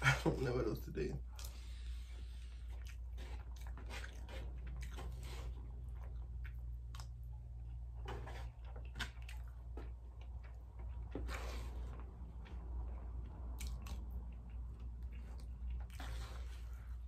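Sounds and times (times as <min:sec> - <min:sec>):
steady low hum: 0:00.0 - 0:17.0
chewing and lip-smacking: 0:01.2 - 0:17.0.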